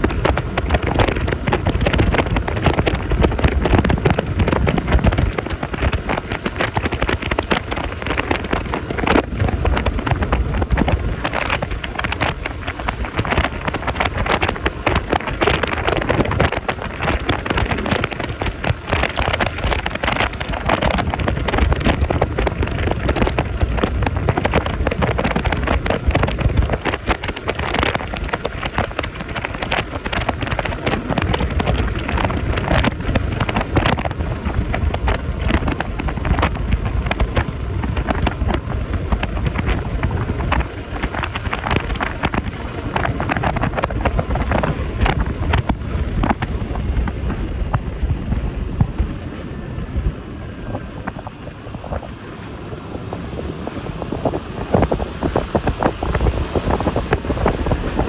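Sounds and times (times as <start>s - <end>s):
road noise: 0.0s - 58.0s
wind on microphone: 0.0s - 58.0s.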